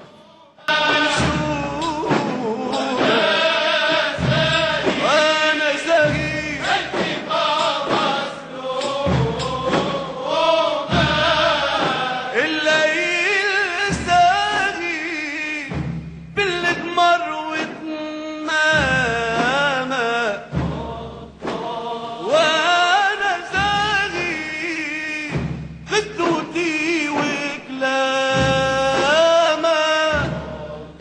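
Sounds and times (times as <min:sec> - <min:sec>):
deep recurring beat: 0:00.7 - 0:17.0, 0:18.8 - 0:31.0.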